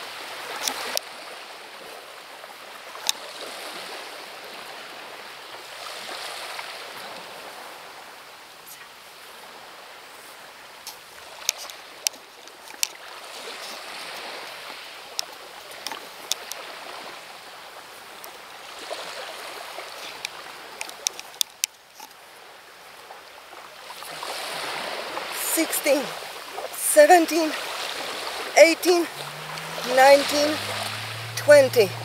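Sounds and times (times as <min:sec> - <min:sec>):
waves washing on pebbles: 0:00.0 - 0:32.0.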